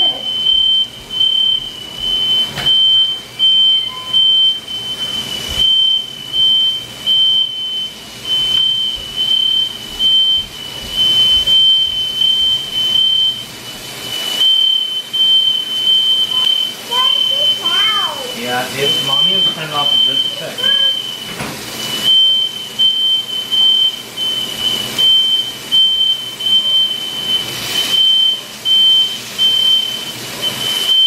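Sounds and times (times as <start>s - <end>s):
smoke alarm beeping: 0.0s - 31.0s.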